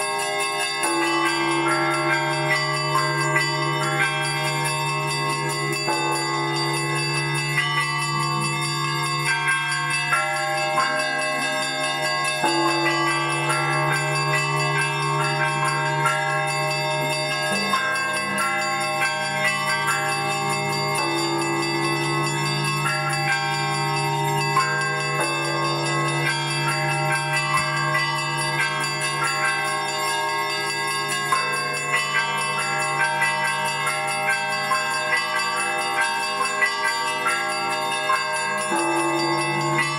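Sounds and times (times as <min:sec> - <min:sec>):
middle church bells: 0:00.0 - 0:39.9
small church bells ringing fast: 0:00.0 - 0:39.9.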